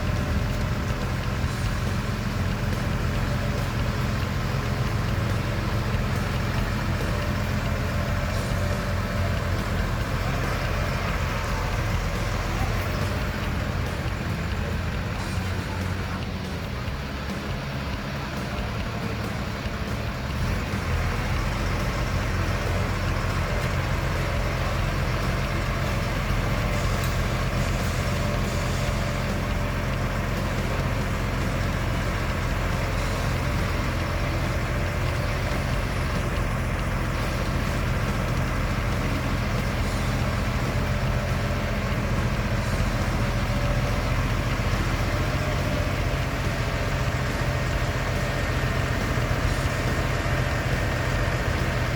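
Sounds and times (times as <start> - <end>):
heavy machine engine droning: 0.0 - 51.9.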